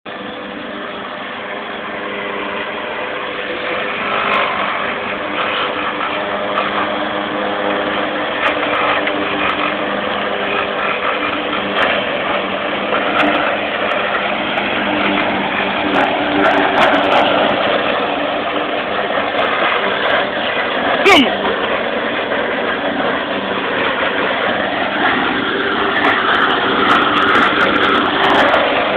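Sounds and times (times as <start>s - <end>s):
lawnmower engine running: 0.1s - 28.9s.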